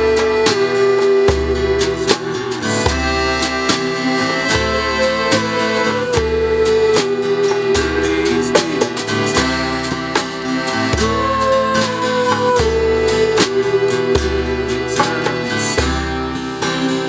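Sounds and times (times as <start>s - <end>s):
djembe played by hand: 0.0s - 17.0s
piano accordion: 0.0s - 17.0s
strummed acoustic guitar: 0.0s - 17.0s.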